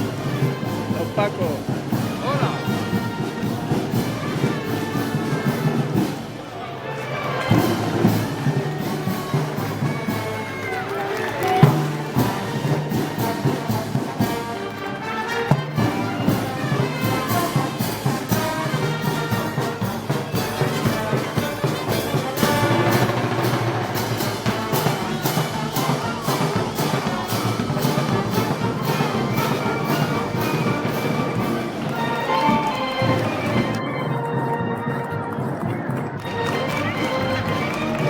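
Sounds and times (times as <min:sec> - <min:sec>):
drums and cymbals: 0:00.0 - 0:33.9
brass band playing a march: 0:00.0 - 0:38.0.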